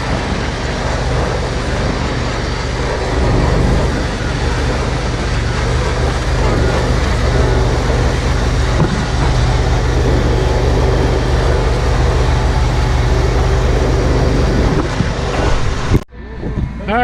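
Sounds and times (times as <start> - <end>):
heavy farm machinery engine running: 0.0 - 17.0.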